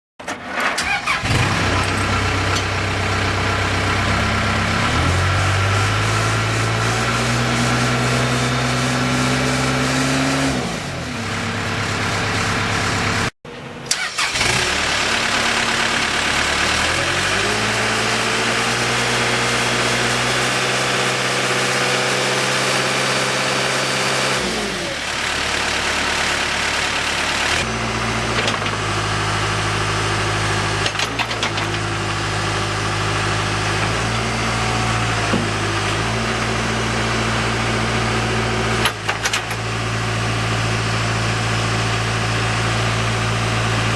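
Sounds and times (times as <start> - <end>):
diesel engine running and revving: 0.6 - 43.9.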